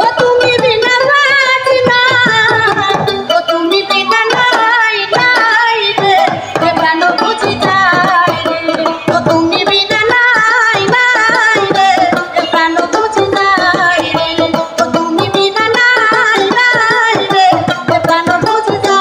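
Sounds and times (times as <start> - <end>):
percussion beat: 0.0 - 19.0
woman singing: 0.0 - 19.0.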